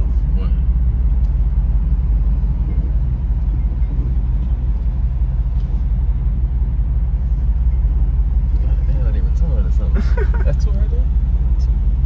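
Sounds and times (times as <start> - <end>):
engine and road rumble in vehicle: 0.0 - 12.0.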